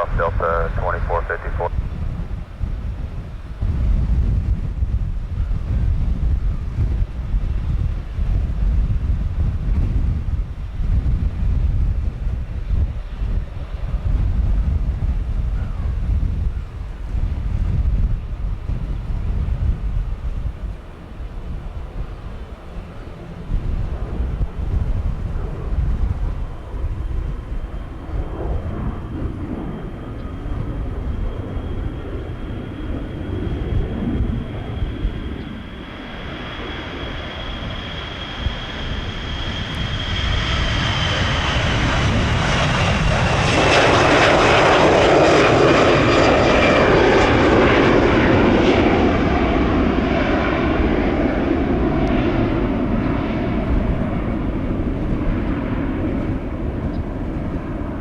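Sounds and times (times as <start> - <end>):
jet airliner passing by: 0.0 - 58.0
wind rumble on microphone: 0.0 - 58.0.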